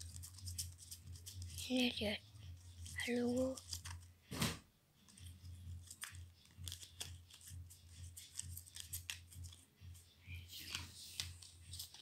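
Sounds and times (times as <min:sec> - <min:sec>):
cards being shuffled: 0:00.0 - 0:01.6, 0:02.5 - 0:12.0.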